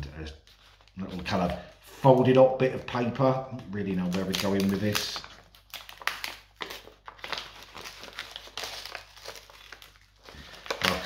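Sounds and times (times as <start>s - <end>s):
paper crinkling and rustling: 0.3s - 11.0s.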